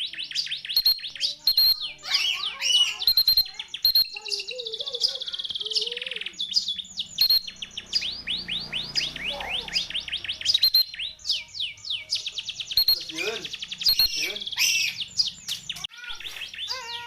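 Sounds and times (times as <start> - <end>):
canary song: 0.0 - 17.0.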